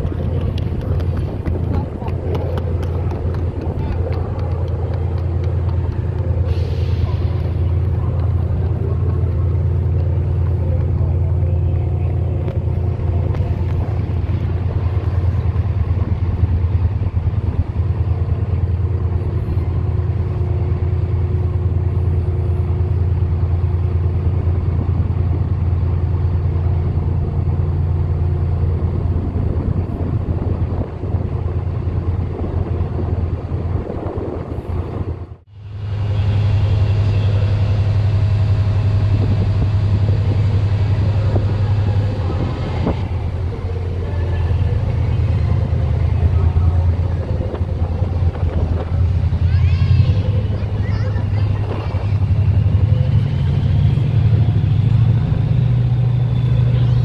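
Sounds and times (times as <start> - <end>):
diesel train engines idling: 0.0 - 57.0.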